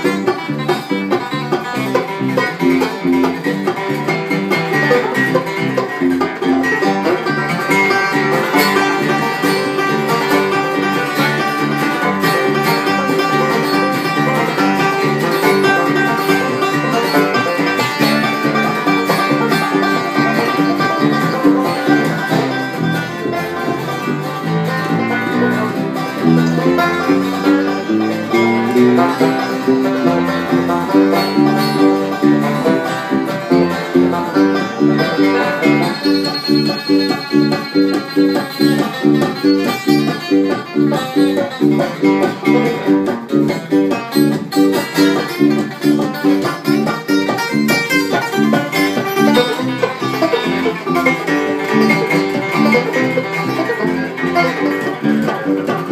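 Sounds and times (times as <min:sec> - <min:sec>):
bass line: 0:00.0 - 0:55.9
bluegrass band playing: 0:00.0 - 0:55.9
plucked banjo: 0:00.0 - 0:55.9.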